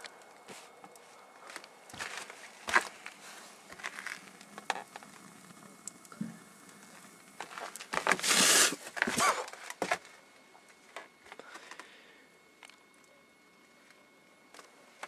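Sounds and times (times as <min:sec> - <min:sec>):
burning speaker crackling and popping: 0:00.0 - 0:15.0.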